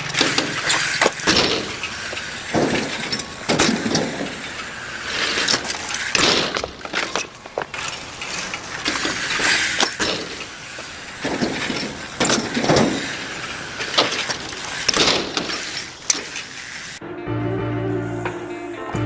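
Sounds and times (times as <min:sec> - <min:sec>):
bike landing clattering impacts: 0:00.0 - 0:17.0
bike tyres rolling on ramps: 0:00.0 - 0:17.0.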